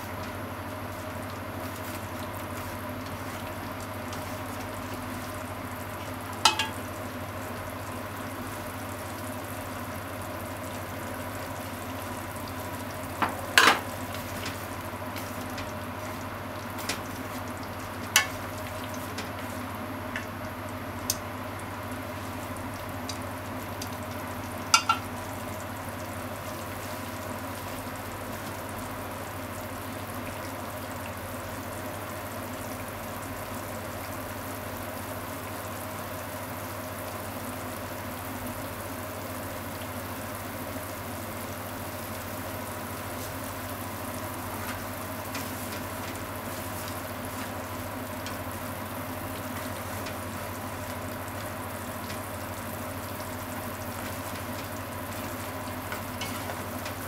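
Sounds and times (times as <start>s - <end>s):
meat sizzling and bubbling in pan: 0.0s - 57.0s.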